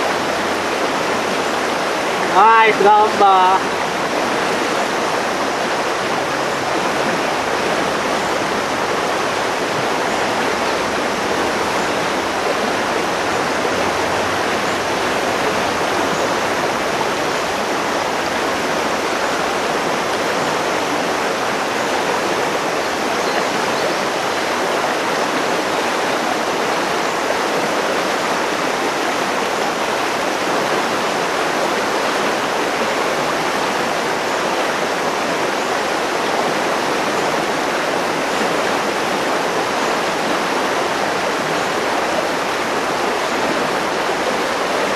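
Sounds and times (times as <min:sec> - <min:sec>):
river rushing over rocks: 0:00.0 - 0:44.9.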